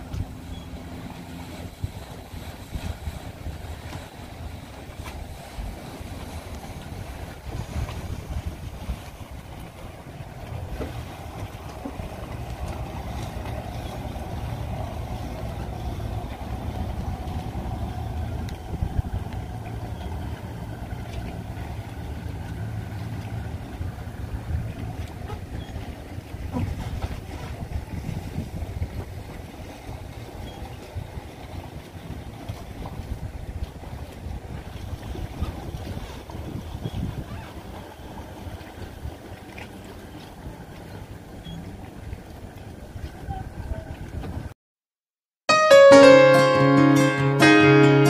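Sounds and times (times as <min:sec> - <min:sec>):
wind on microphone: 0:00.0 - 0:21.7, 0:23.6 - 0:39.3, 0:42.1 - 0:44.5
motorboat engine passing: 0:00.0 - 0:44.5.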